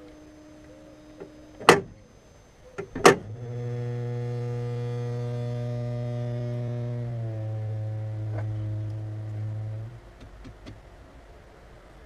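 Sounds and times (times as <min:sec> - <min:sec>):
solenoid valve buzzing hum: 0:00.0 - 0:10.4.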